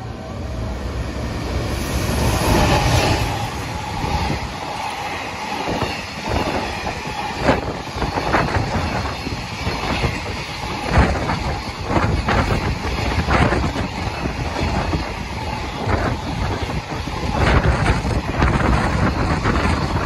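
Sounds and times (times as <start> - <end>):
electric locomotive passing: 0.0 - 20.0.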